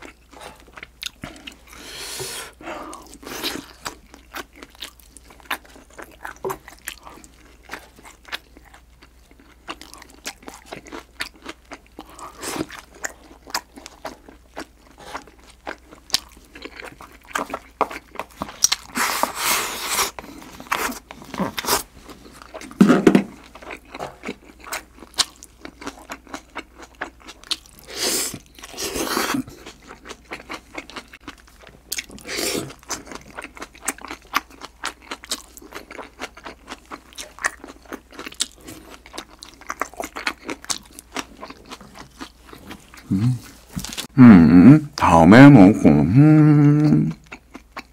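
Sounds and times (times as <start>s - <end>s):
chewing and crunching: 0.0s - 1.9s, 2.5s - 44.1s, 46.8s - 47.9s.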